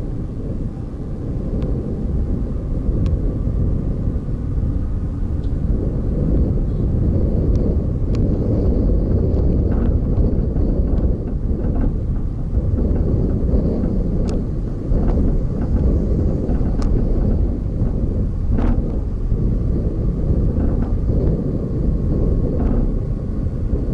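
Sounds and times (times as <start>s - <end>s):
vehicle rumble: 0.0s - 23.9s
wind buffeting microphone: 0.0s - 23.9s.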